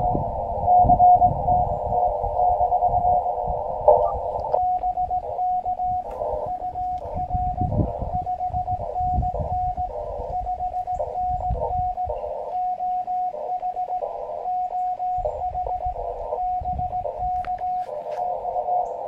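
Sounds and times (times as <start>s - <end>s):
radio band noise hiss: 0.0s - 19.0s
morse code tone: 0.8s - 19.0s.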